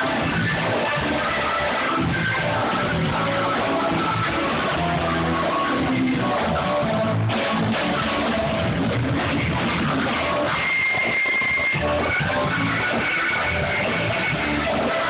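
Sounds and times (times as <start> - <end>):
electric blues band playing: 0.0 - 15.0
electric guitar: 0.0 - 15.0.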